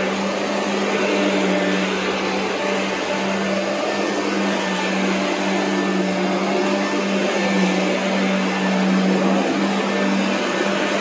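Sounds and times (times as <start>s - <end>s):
upright vacuum cleaner running: 0.0s - 11.0s.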